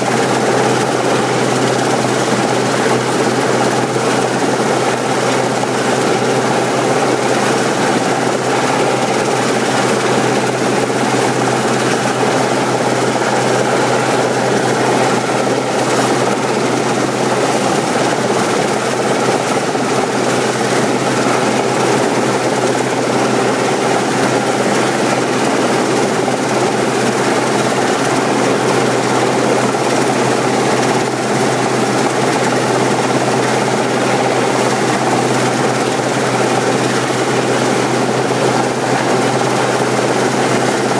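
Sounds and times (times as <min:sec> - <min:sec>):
helicopter hovering: 0:00.0 - 0:40.9
high turbine whine: 0:00.0 - 0:40.9.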